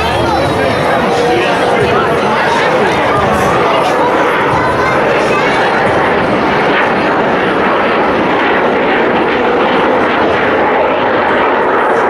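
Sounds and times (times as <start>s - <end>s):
airplane engine rushing: 0.0s - 12.0s.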